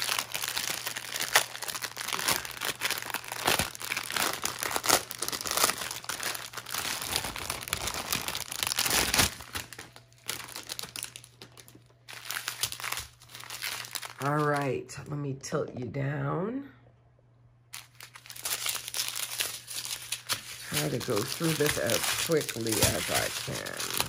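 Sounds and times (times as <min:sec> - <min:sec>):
plastic bag crinkling: 0:00.0 - 0:14.7, 0:17.7 - 0:24.0.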